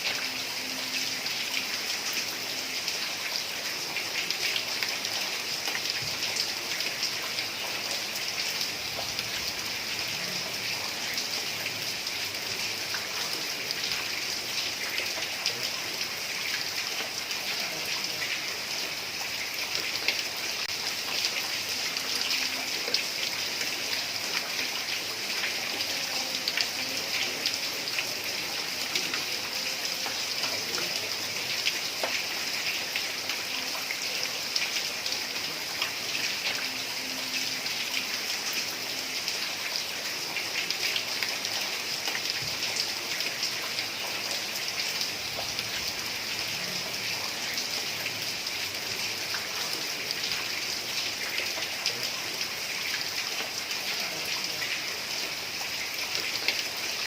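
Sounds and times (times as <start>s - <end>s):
heavy rain on roof tiles: 0.0s - 57.0s.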